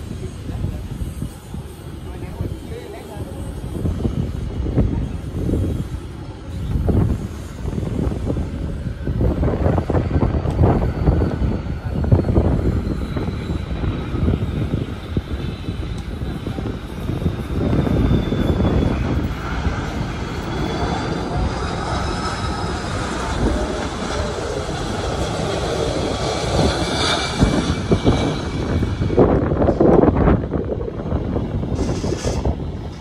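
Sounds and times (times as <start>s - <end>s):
jet airliner engines rumbling: 0.0s - 33.0s.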